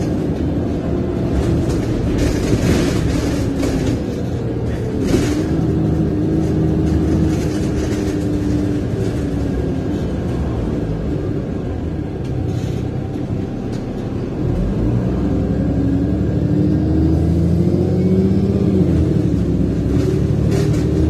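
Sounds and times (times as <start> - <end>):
bus body rattling: 0.0 - 15.8, 18.6 - 21.0
bus diesel engine running: 0.0 - 21.0.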